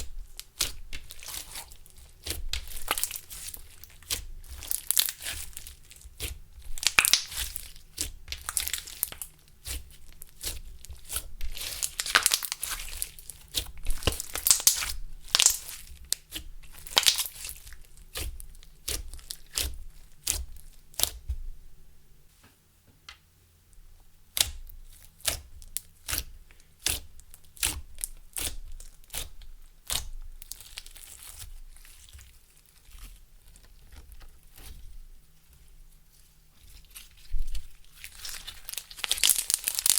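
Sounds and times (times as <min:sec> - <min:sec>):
slime squished by hand crackling: 0:00.0 - 0:21.4, 0:24.3 - 0:33.2, 0:36.9 - 0:39.9.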